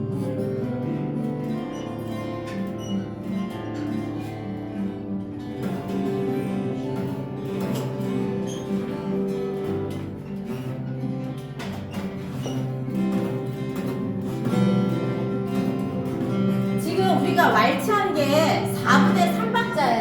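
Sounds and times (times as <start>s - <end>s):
acoustic guitar waltz chords: 0.0s - 20.0s.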